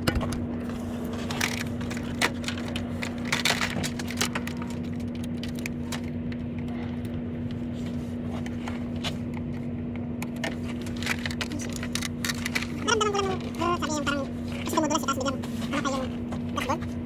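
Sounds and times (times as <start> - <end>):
steady low hum: 0.0 - 17.0
handling clicks and scrapes: 0.1 - 17.0.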